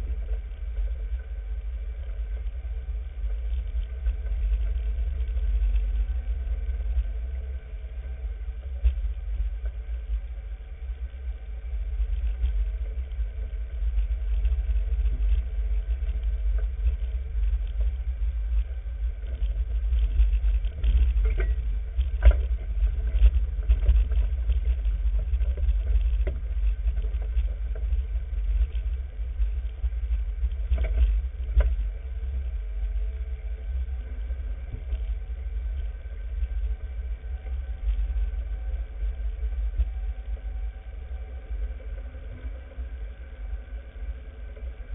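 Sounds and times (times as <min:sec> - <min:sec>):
off-road vehicle engine rumble: 0:00.0 - 0:44.9.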